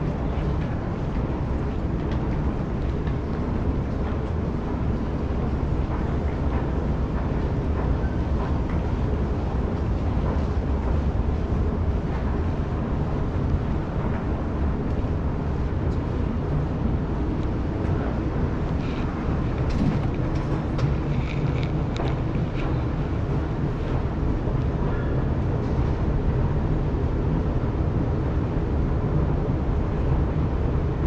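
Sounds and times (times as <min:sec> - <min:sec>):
low rumble of metro station: 0:00.0 - 0:31.0.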